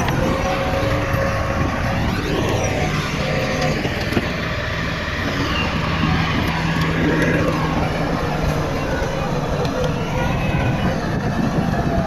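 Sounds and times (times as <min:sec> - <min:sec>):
diesel machinery engine humming: 0:00.0 - 0:12.0.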